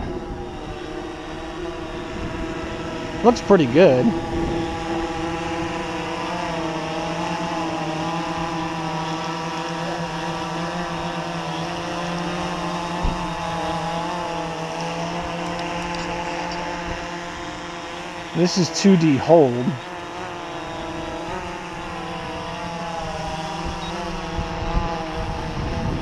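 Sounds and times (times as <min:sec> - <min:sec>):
drone motors buzzing whine: 0:00.0 - 0:26.0.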